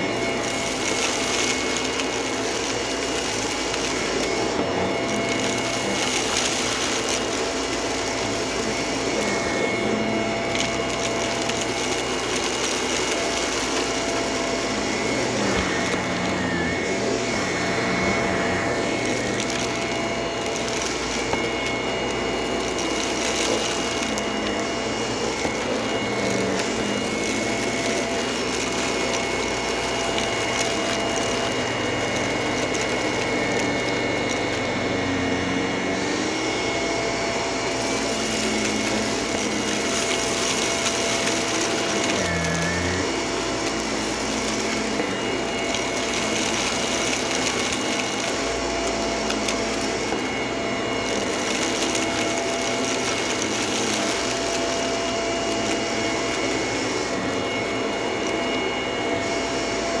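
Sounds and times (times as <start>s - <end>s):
stick vacuum running: 0.0s - 60.0s.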